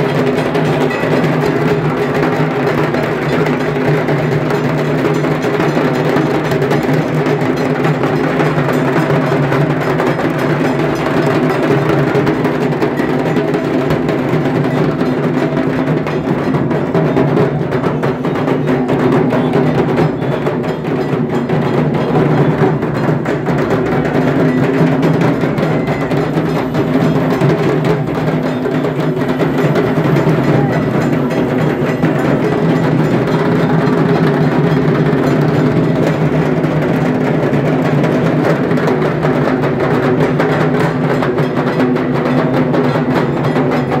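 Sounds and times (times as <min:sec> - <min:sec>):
massed rapid drumming: 0:00.0 - 0:44.0.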